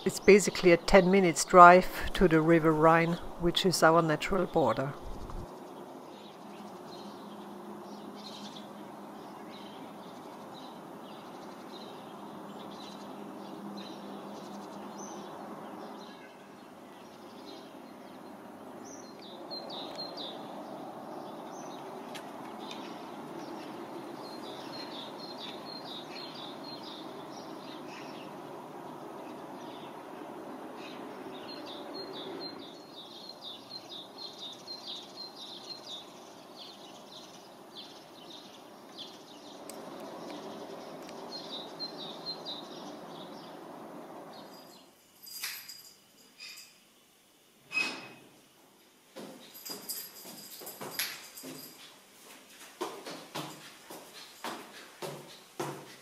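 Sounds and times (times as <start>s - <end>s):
small birds chirping: 0.0s - 44.9s
steady background noise: 0.0s - 56.0s.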